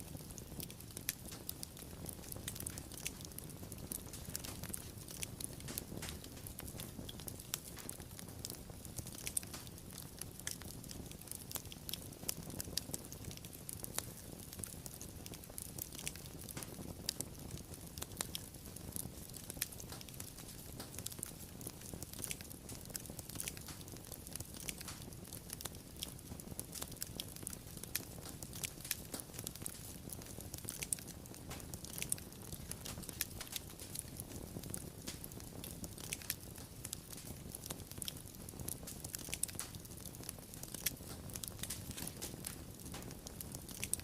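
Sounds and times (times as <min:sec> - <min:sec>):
low rumble of flames: 0:00.0 - 0:44.0
wood fire crackling and popping: 0:00.0 - 0:44.0.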